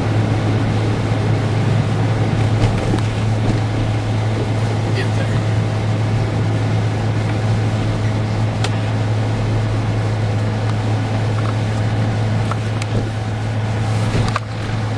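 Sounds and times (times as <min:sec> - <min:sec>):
car engine drone: 0:00.0 - 0:14.9
road noise: 0:00.0 - 0:14.9.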